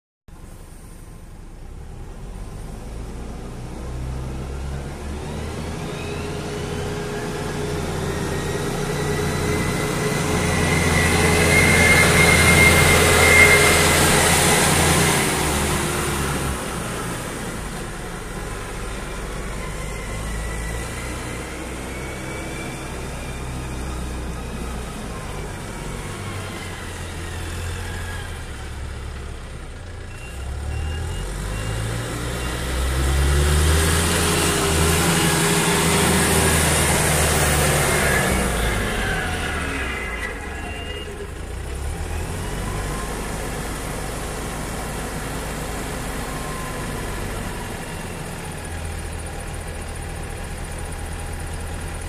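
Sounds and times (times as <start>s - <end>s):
wheel loader diesel engine: 0.3s - 52.0s.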